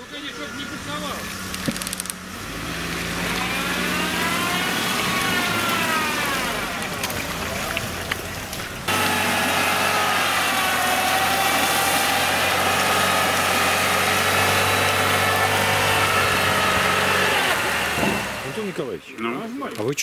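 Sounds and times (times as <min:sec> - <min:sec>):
engine running at low revs: 0:00.0 - 0:18.8.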